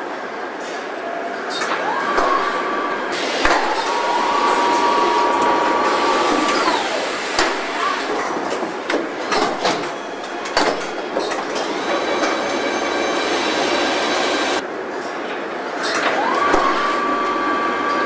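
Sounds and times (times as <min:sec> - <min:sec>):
assembly line machine noise: 0:00.0 - 0:18.0
machine whine: 0:01.0 - 0:14.6, 0:15.6 - 0:18.0.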